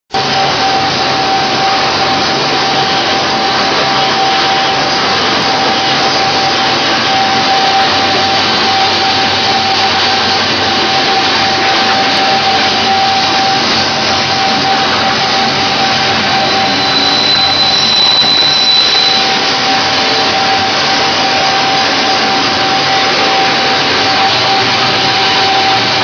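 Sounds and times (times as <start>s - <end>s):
mixer whirring with whine: 0.1s - 26.0s.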